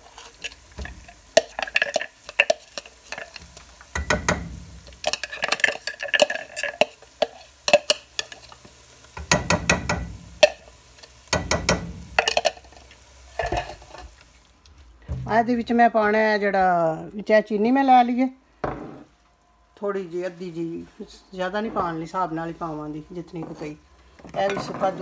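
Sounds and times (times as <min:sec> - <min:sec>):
light sizzle of frying: 0:00.0 - 0:25.0.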